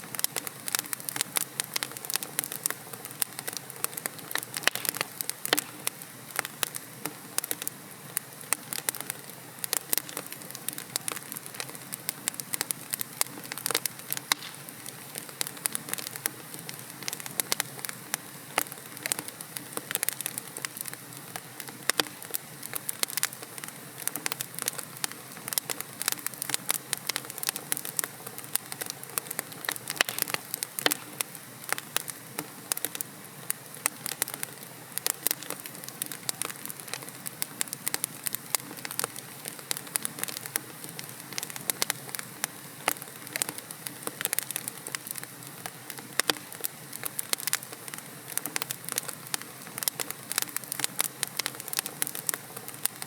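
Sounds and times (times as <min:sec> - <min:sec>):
logs burning with crackles: 0:00.0 - 0:53.0.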